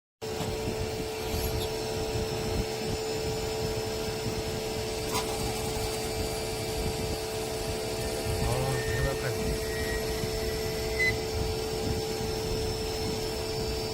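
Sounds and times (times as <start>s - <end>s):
lathe motor whine and rumble: 0.2s - 13.9s.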